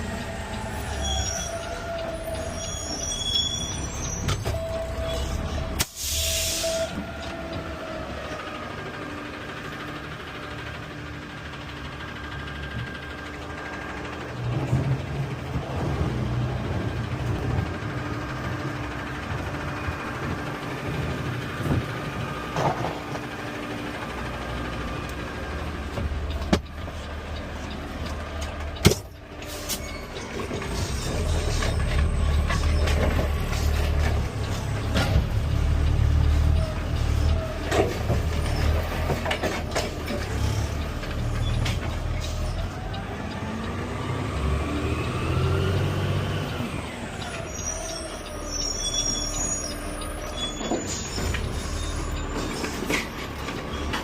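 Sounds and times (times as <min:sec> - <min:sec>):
garbage truck engine running: 0:07.0 - 0:54.0.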